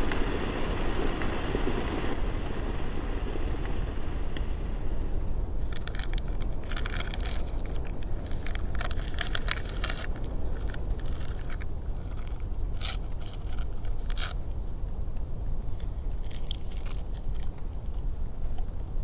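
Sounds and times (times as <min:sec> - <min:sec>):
light clicks and crackles: 0:00.0 - 0:18.9
wind rumbling on microphone: 0:00.0 - 0:19.0.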